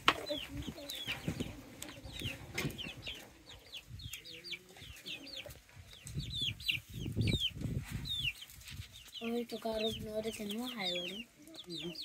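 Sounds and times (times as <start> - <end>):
chickens peeping: 0.0 - 12.0.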